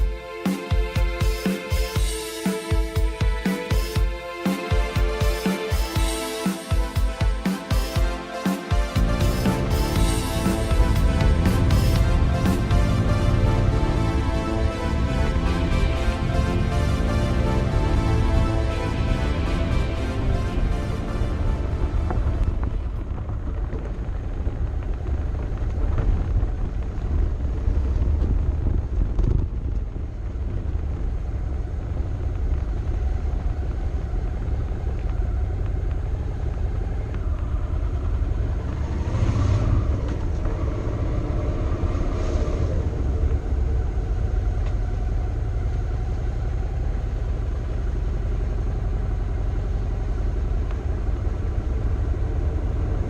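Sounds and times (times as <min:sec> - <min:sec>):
motorcycle engine: 0:06.8 - 0:53.0
wind rumble: 0:08.9 - 0:53.0.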